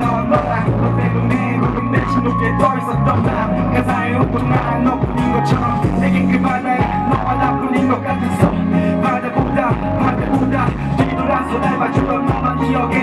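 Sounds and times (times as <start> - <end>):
backing track drum beat: 0.0 - 13.0
boys singing a pop ballad: 0.0 - 13.0.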